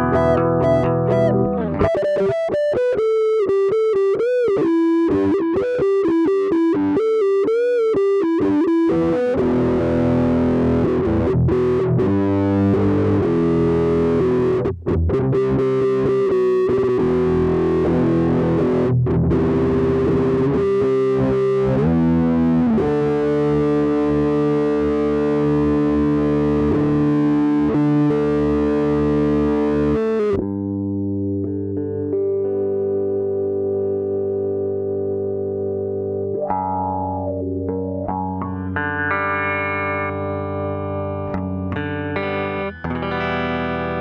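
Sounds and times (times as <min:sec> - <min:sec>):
distorted electric guitar: 0:00.0 - 0:30.5, 0:31.5 - 0:44.0.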